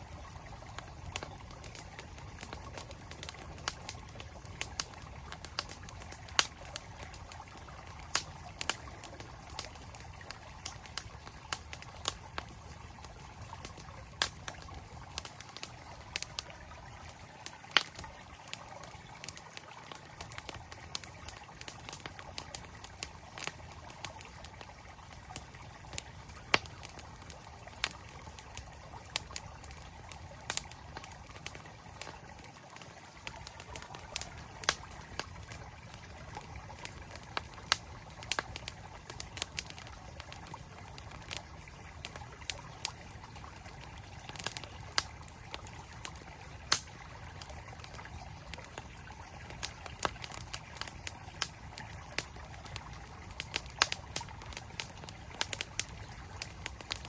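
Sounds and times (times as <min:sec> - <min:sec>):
campfire crackling and popping: 0:00.0 - 0:57.0
flowing stream: 0:00.0 - 0:57.0.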